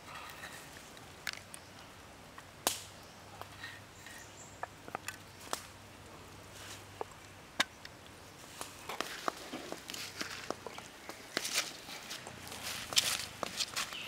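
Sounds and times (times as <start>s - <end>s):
wood fire crackling and popping: 0.2s - 3.7s, 4.6s - 13.8s.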